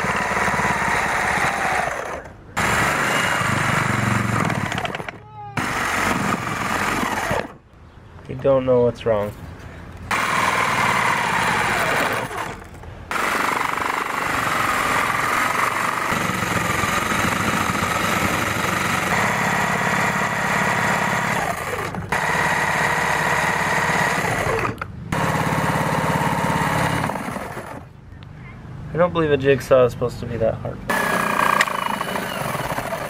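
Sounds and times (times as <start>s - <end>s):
electric jigsaw cutting wood: 0.0s - 7.6s, 10.1s - 27.9s, 30.9s - 33.0s.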